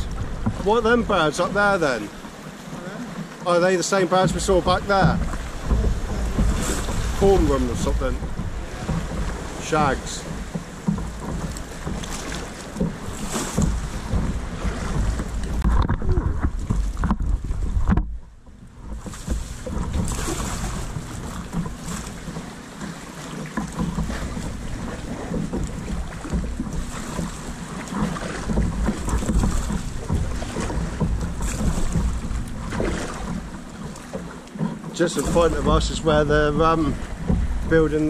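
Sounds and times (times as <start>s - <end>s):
wind buffeting microphone: 0.0s - 3.6s, 4.2s - 38.0s
water sloshing around kayak: 0.0s - 38.0s.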